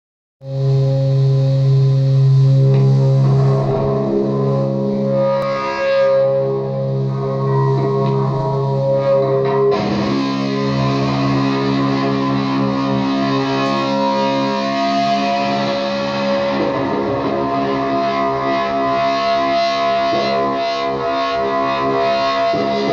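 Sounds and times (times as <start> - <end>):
distorted electric guitar: 0.4 - 22.9
droning looped guitar notes: 0.4 - 22.9.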